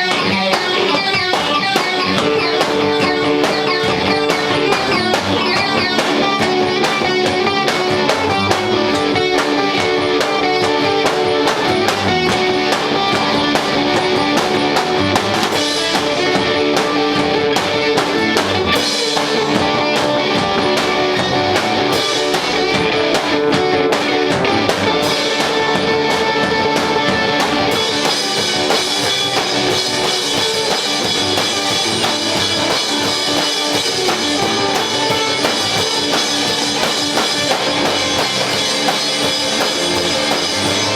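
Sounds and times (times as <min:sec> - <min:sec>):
cymbals: 0:00.0 - 0:40.9
rock band playing: 0:00.0 - 0:40.9.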